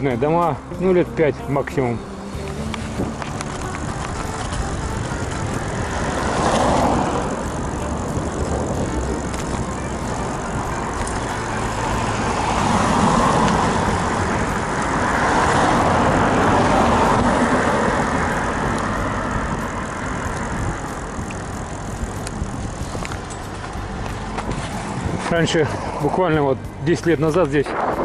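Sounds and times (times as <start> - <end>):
cars passing: 0.0 - 28.0
road rumble: 0.0 - 28.0
wind noise: 1.4 - 28.0.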